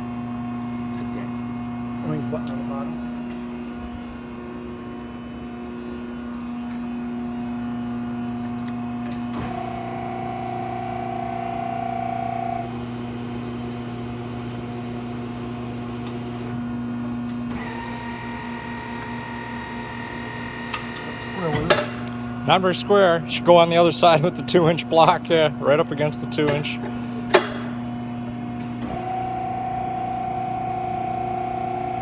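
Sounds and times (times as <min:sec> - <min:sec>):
hydraulic pump motor humming: 0:00.0 - 0:32.0
hydraulic whine and hiss: 0:00.1 - 0:16.8, 0:17.4 - 0:32.0.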